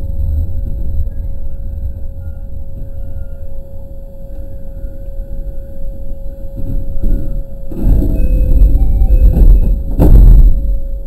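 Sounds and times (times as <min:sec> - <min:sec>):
steady hum: 0:00.0 - 0:11.0
train rumble: 0:00.0 - 0:11.0.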